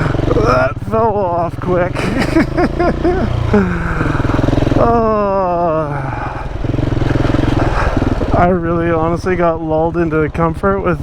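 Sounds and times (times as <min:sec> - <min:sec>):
motorcycle engine on dirt road: 0:00.0 - 0:11.0.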